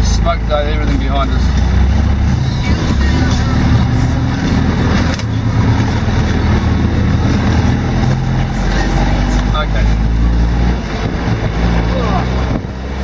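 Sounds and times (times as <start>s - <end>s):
car engine running: 0.0s - 13.0s
tyre and road noise: 0.0s - 13.0s.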